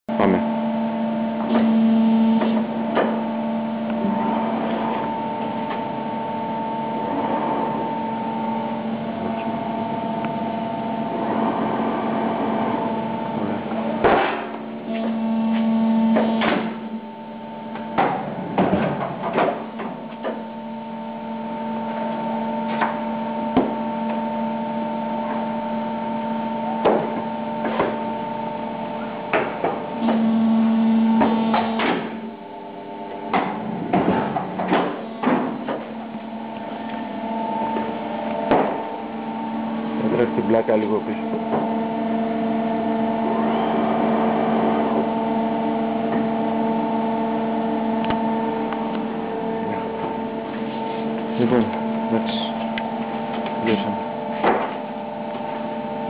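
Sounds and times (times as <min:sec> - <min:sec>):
paper cutter humming: 0:00.2 - 0:56.0.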